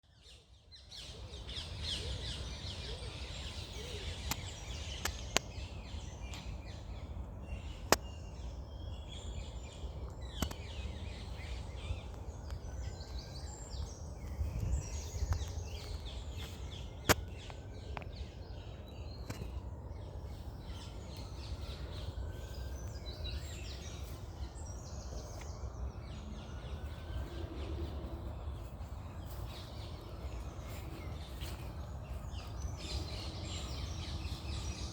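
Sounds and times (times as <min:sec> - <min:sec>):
birds singing and chirping: 0:00.0 - 0:34.9
steady low rumble: 0:01.4 - 0:34.9.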